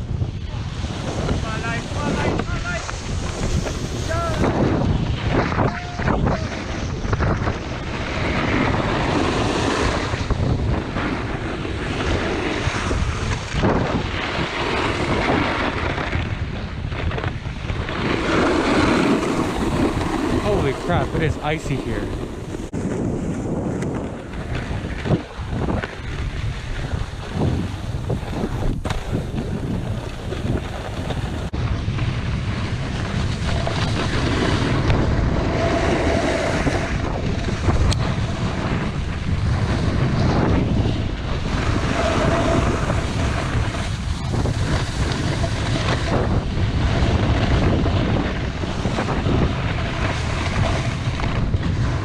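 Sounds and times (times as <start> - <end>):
wind rushing over microphone: 0.0 - 52.0
snowboard edges scraping icy snow: 0.6 - 52.0.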